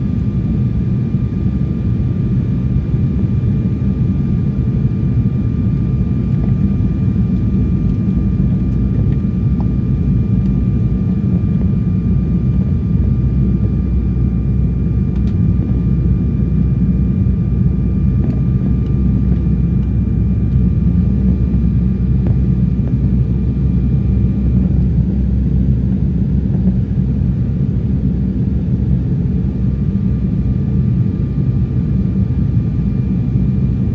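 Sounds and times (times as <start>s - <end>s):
jet engines and airflow rumble: 0.0s - 33.9s.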